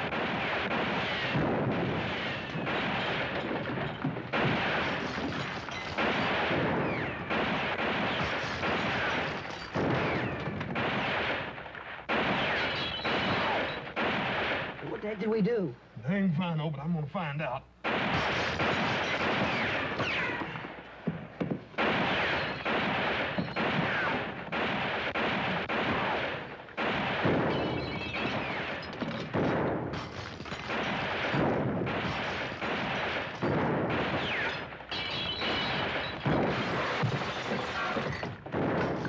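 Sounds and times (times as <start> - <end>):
gunfire volleys: 0.0 - 15.2, 17.8 - 39.0.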